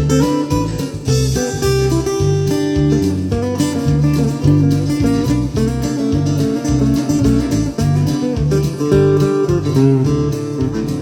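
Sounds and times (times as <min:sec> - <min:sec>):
country guitar music: 0:00.0 - 0:11.0.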